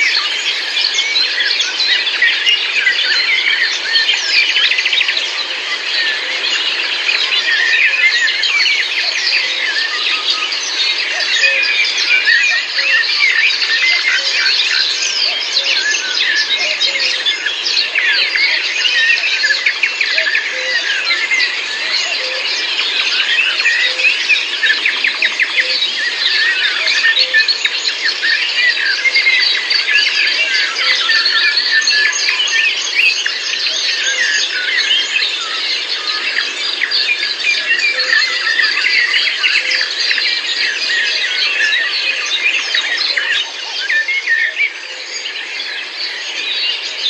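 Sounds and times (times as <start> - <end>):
chorus of songbirds singing: 0.0 - 47.0.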